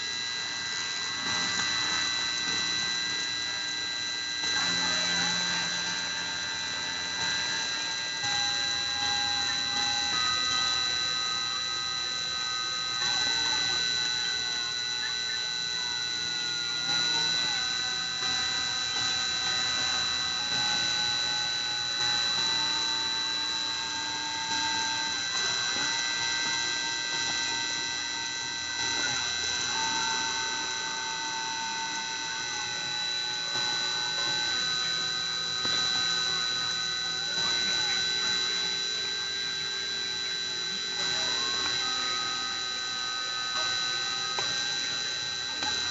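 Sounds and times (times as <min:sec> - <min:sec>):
rotary tool high whine: 0:00.0 - 0:45.9
stepper motors humming tones: 0:00.0 - 0:45.9.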